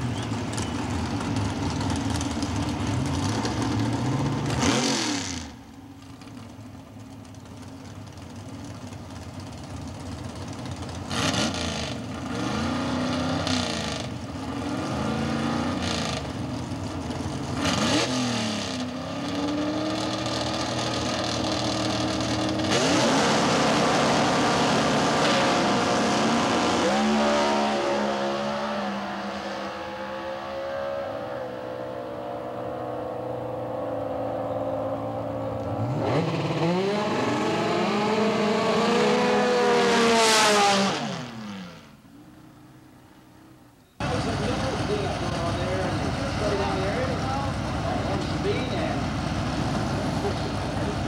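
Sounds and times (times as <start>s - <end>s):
drag car engine revving: 0.0s - 6.2s, 7.5s - 42.0s, 44.0s - 51.0s.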